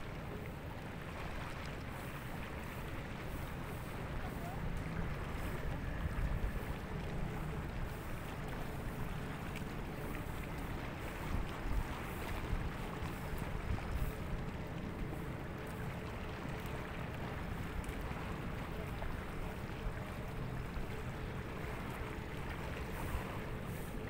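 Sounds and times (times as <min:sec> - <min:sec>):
wind rumbling on microphone: 0:00.8 - 0:24.0.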